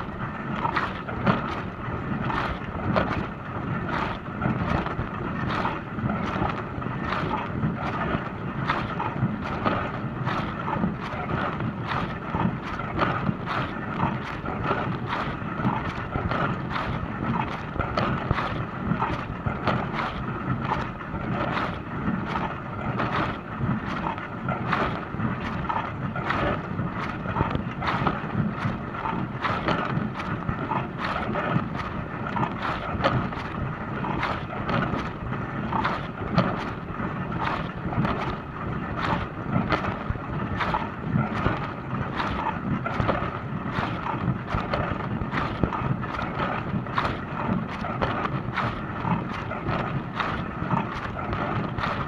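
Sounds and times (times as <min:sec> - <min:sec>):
low pump hum: 0:00.0 - 0:52.0.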